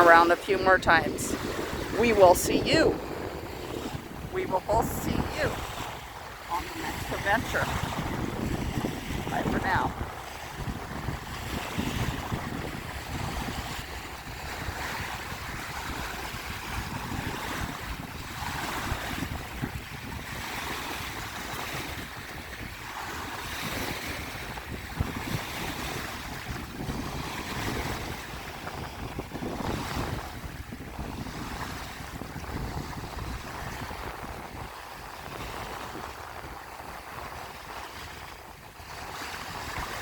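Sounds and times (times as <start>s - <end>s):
lake waves washing on shore: 0.0s - 40.0s
wind rumbling on microphone: 0.0s - 40.0s.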